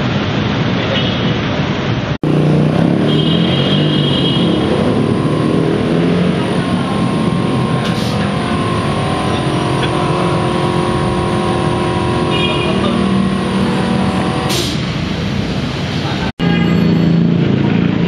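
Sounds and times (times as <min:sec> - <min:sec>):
traffic engine hum: 0:00.0 - 0:18.0.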